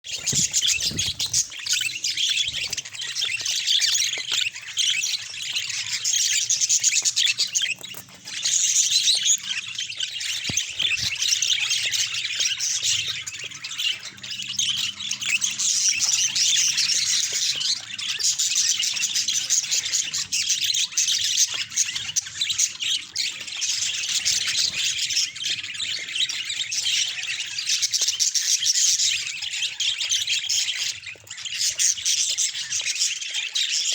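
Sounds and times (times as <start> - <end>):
budgerigars chattering and warbling: 0.1 - 33.9.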